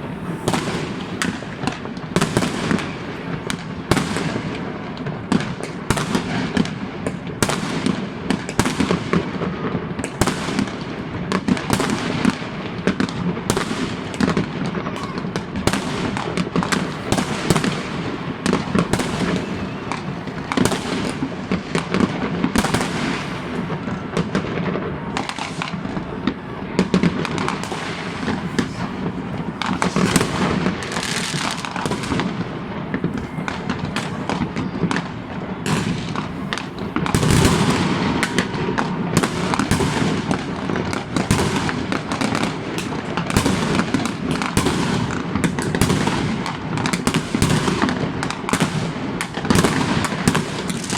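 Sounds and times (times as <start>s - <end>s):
fireworks and firecrackers banging: 0.0s - 50.9s.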